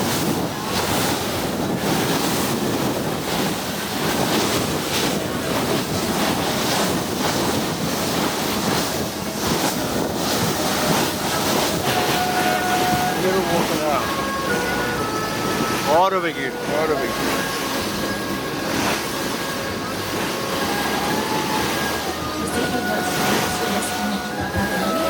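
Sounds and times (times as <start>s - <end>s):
water splashing against boat hull: 0.0s - 25.0s
wind buffeting microphone: 0.0s - 25.0s.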